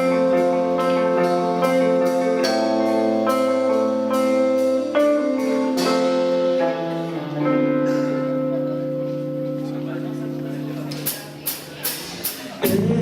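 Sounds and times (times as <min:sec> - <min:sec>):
ringing guitar chords: 0:00.0 - 0:11.4, 0:12.6 - 0:13.0.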